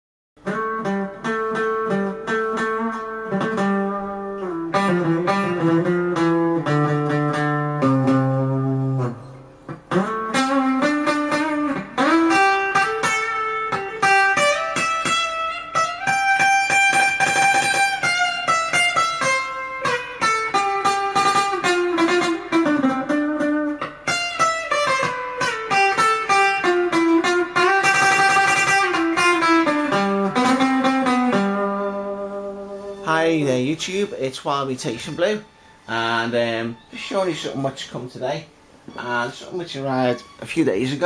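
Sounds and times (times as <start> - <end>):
guitar melody: 0.4 - 41.0.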